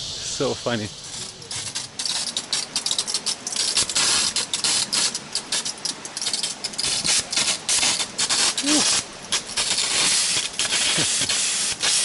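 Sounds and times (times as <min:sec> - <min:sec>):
rustling and crackling scrapes: 0:01.0 - 0:12.0.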